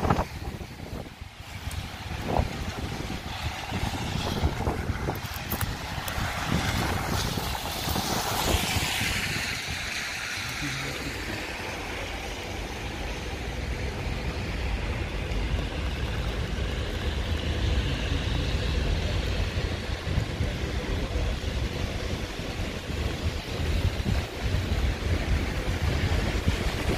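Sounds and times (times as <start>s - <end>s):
tyres hissing on wet road: 0.0s - 26.9s
wind buffeting microphone: 0.0s - 26.9s.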